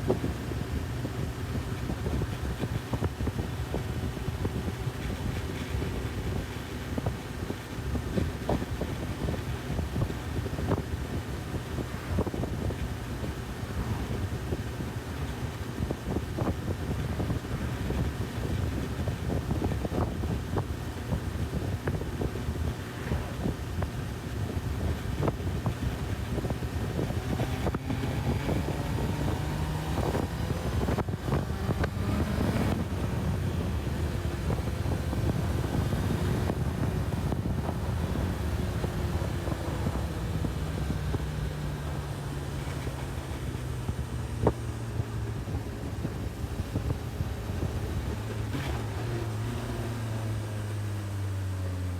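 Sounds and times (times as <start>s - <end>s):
wind buffeting microphone: 0.0s - 51.3s
motorcycle engine accelerating: 0.0s - 51.9s.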